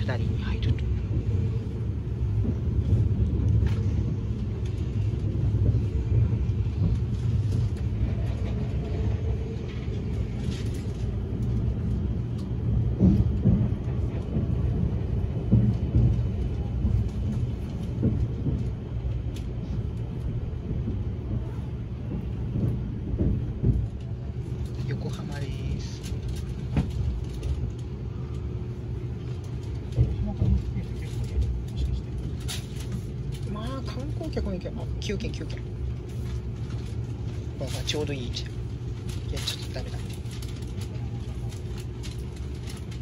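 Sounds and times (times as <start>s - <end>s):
train ride rumble: 0.0s - 43.0s.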